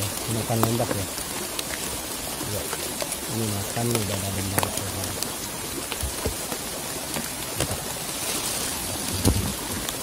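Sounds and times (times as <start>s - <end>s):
raindrops ticking: 0.0s - 10.0s
steady rain: 0.0s - 10.0s.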